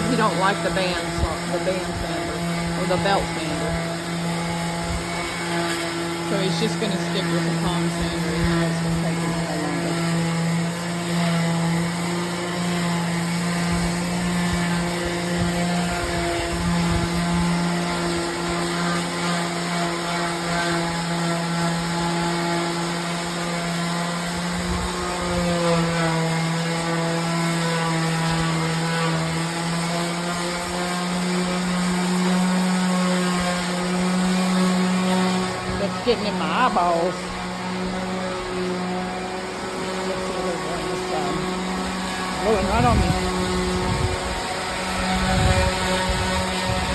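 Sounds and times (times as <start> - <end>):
electric sander motor hum: 0.0 - 46.9.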